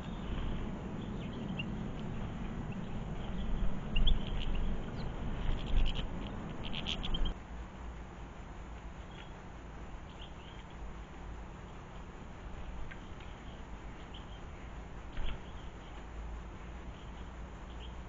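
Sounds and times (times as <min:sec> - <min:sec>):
birds chirping: 0:00.0 - 0:07.4, 0:08.9 - 0:10.8, 0:12.6 - 0:18.0
low background noise: 0:00.0 - 0:18.0.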